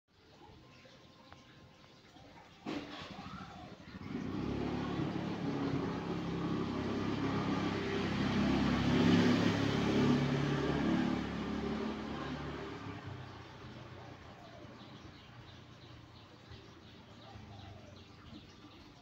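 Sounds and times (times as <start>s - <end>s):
vehicle engine running: 2.7s - 18.8s.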